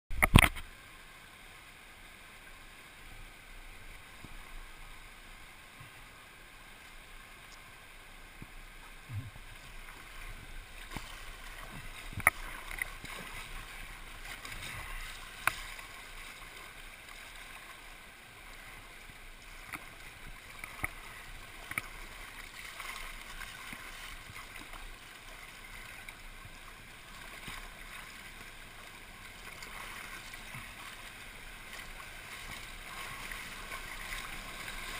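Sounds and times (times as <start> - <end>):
rushing and splashing water: 0.1 - 34.9.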